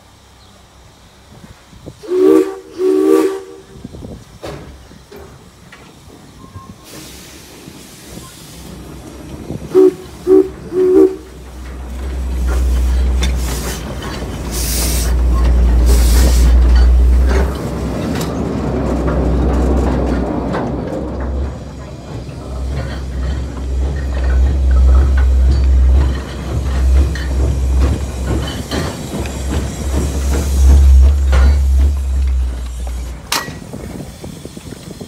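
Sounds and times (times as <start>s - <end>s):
steam hiss: 0.0s - 18.2s, 21.7s - 35.0s
low rumble of locomotive: 0.0s - 35.0s
train wheels clicking and squeaking: 4.0s - 35.0s.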